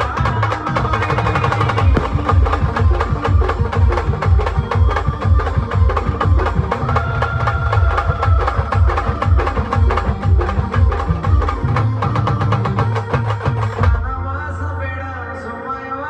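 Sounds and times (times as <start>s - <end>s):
fast drum and percussion beat: 0.0s - 14.2s.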